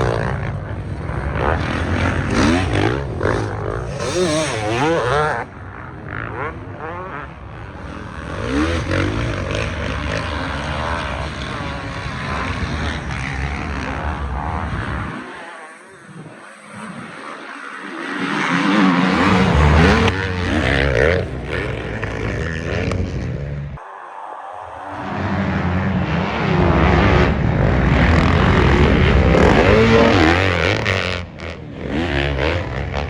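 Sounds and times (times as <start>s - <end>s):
off-road racing engines revving: 0.0s - 23.8s, 24.9s - 33.0s.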